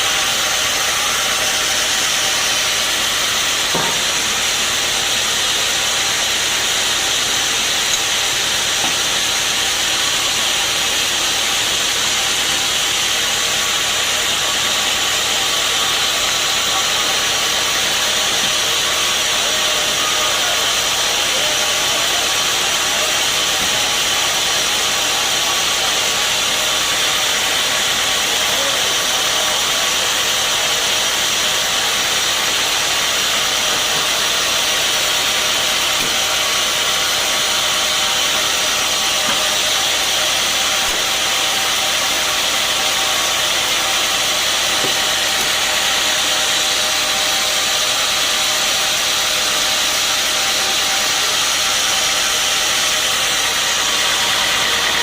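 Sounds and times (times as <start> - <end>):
machinery running: 0.0 - 55.0
sawmill saw cutting log: 0.0 - 55.0.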